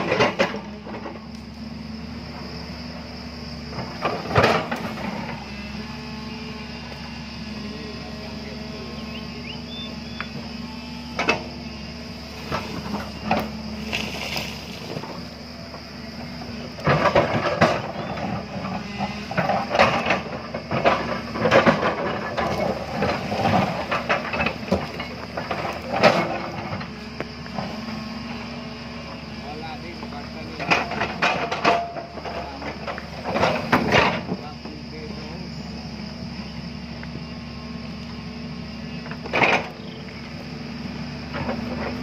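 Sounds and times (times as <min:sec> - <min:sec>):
diesel excavator engine running: 0:00.0 - 0:42.0.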